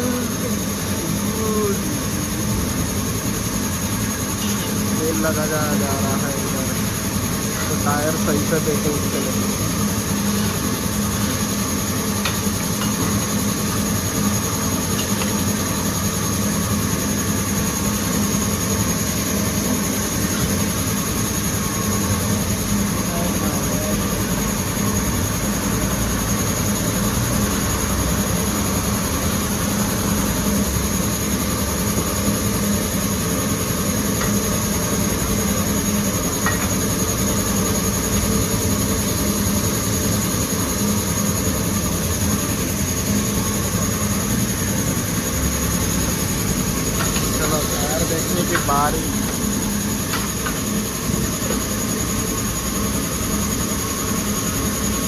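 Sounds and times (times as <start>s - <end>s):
mechanical drone with high whine: 0.0s - 55.0s.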